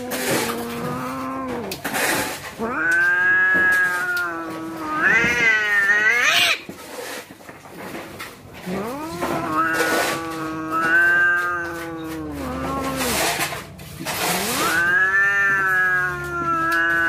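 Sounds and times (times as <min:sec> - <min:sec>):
cats yowling: 0:00.0 - 0:06.7, 0:08.5 - 0:17.0.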